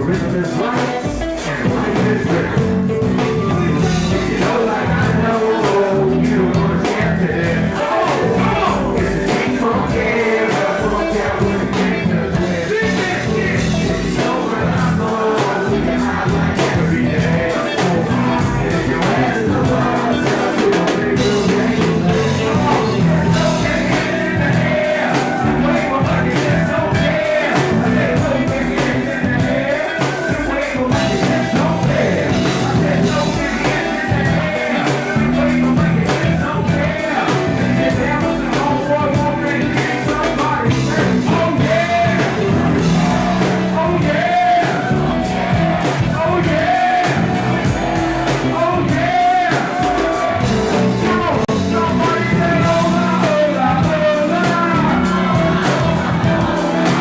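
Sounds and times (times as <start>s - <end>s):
rock band music with singing: 0.0s - 57.0s.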